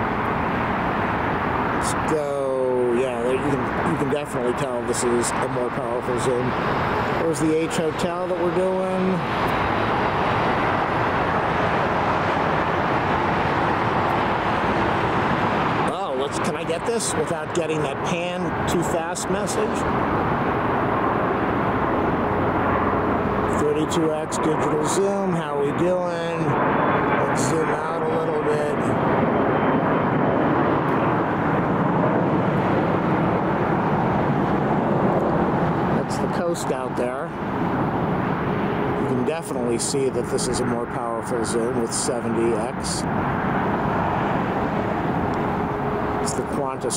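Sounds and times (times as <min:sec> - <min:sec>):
jet aircraft engines: 0:00.0 - 0:46.9
vehicle roar: 0:00.0 - 0:46.9.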